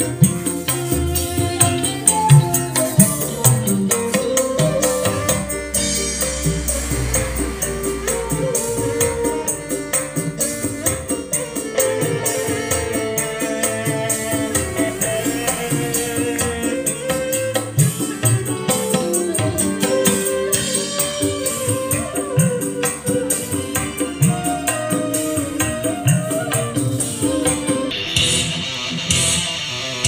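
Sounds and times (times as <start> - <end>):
music with rhythmic percussion: 0.0 - 30.0.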